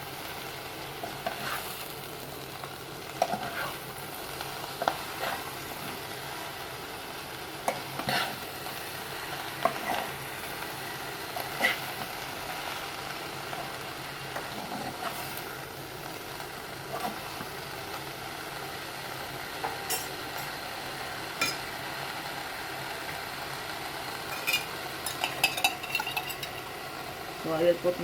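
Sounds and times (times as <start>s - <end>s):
vegetables sizzling in a frying pan: 0.0s - 28.0s.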